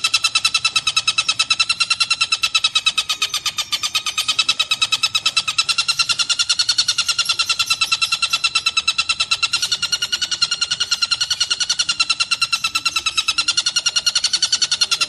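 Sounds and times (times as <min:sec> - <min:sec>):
kingfisher chattering call: 0:00.0 - 0:15.0.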